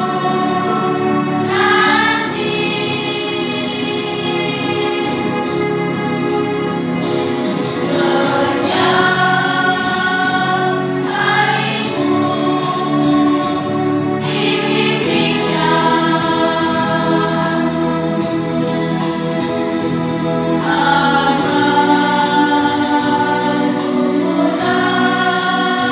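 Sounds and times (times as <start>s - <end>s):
children's choir singing: 0.0s - 5.6s, 7.6s - 25.9s.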